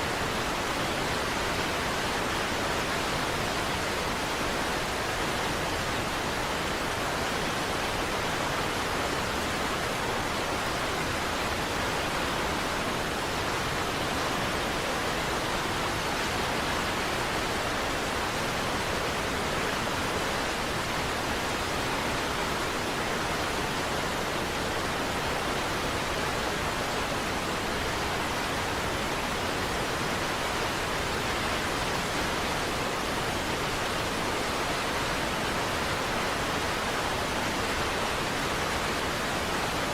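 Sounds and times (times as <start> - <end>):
large waterfall rushing: 0.0 - 39.9.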